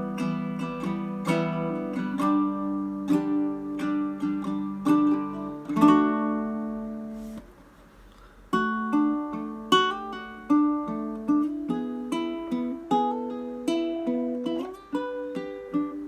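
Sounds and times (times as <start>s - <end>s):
baritone ukulele playing: 0.0s - 7.5s, 8.5s - 16.0s.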